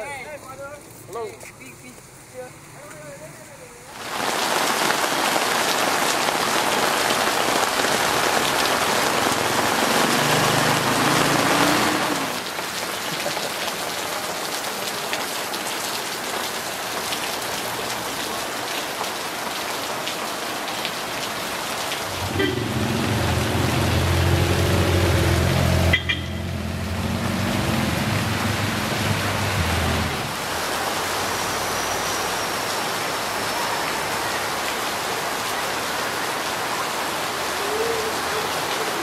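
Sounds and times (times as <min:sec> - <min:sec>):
heavy rain pouring: 0:03.1 - 0:39.0.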